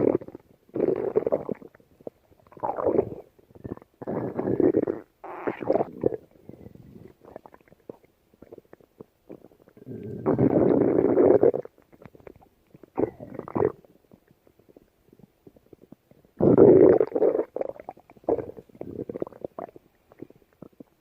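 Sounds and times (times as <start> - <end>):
stomach growling: 0.0 - 21.0.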